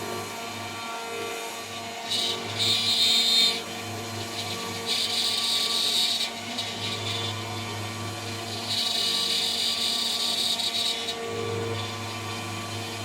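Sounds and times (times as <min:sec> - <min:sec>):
router spindle running: 0:00.0 - 0:13.0.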